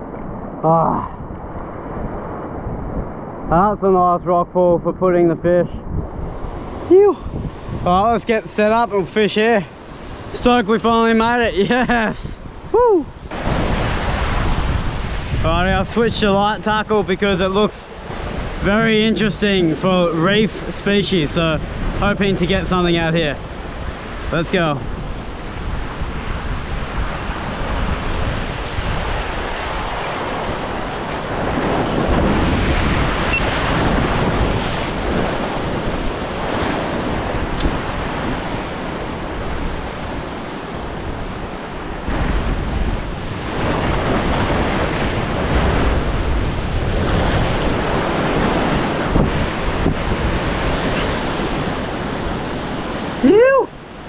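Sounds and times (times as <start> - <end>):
ocean surf breaking over rocks: 5.9 - 54.0.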